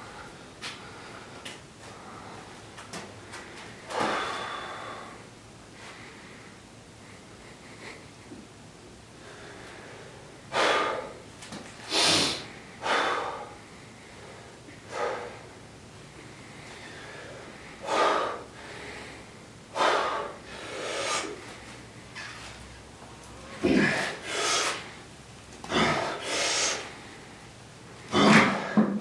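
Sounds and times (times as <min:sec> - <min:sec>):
man breathing hard: 0:00.0 - 0:08.2, 0:09.1 - 0:21.9, 0:23.0 - 0:29.0.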